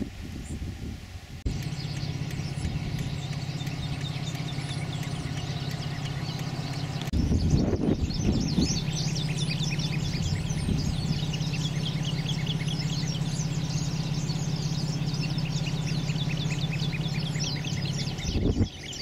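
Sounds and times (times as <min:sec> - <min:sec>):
steady low hum: 0:00.6 - 0:19.0
small birds chirping: 0:01.5 - 0:19.0.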